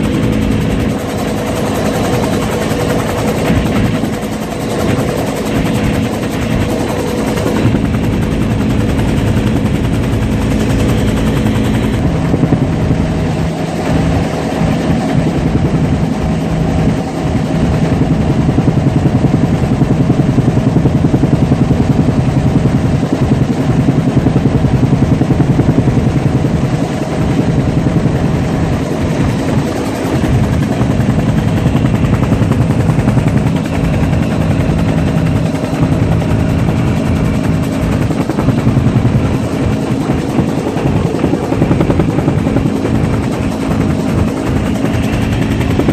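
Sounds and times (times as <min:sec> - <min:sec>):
helicopter rotor and turbine noise: 0:00.0 - 0:45.9.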